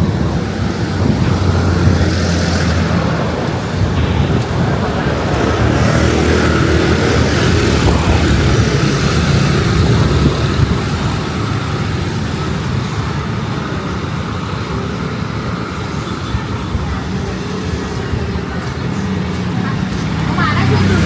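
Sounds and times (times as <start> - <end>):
road traffic rumble: 0.0 - 21.0
wind buffeting microphone: 0.0 - 21.0.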